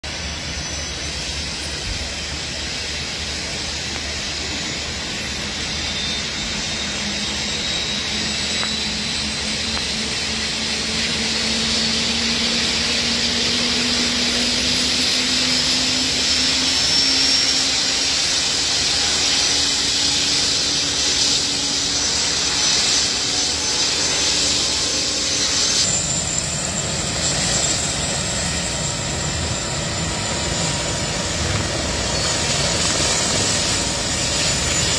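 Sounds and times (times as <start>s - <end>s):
helicopter rotor running: 0.0s - 34.9s
helicopter turbines whining: 0.0s - 34.9s.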